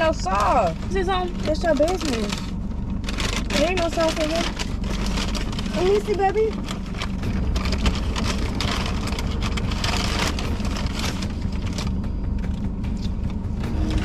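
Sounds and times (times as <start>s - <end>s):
paper bags crinkling: 0.0s - 12.1s
car engine rumble: 0.0s - 14.0s.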